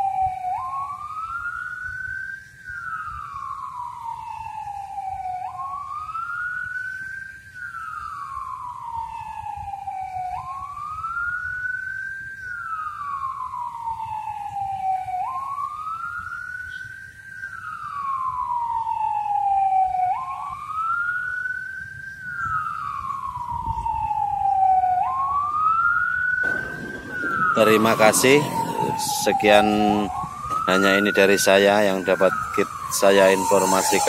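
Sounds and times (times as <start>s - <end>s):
siren wailing: 0.0s - 34.0s.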